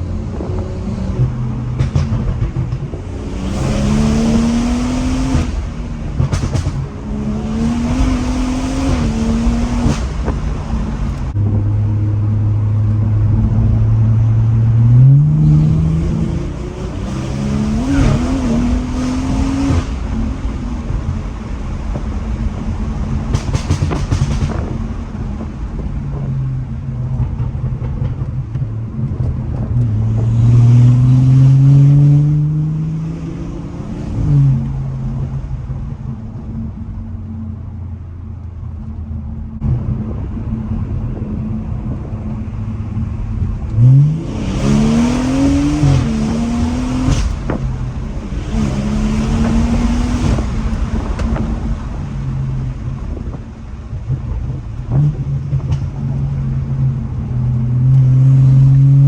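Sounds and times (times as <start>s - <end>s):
car engine revving hard: 0.0s - 11.7s, 12.9s - 26.2s, 28.9s - 36.6s, 39.6s - 59.0s.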